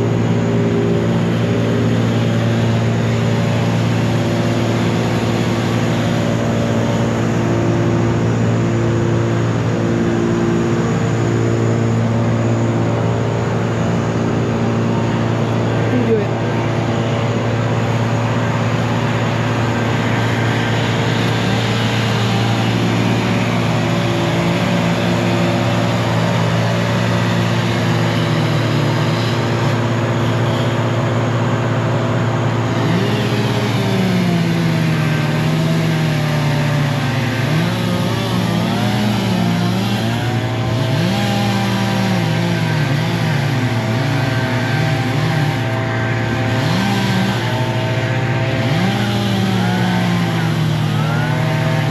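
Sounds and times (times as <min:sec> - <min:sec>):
diesel machinery running: 0:00.0 - 0:51.9.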